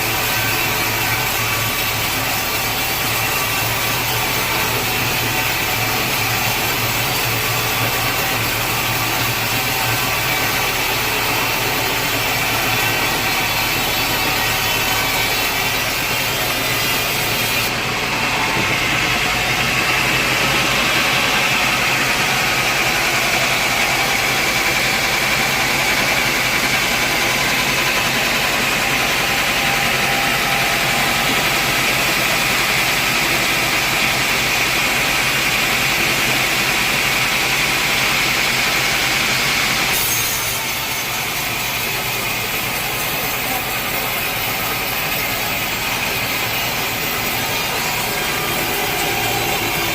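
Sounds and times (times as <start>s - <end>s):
machine running: 0.0s - 49.9s
saw cutting log with whine: 0.0s - 49.9s.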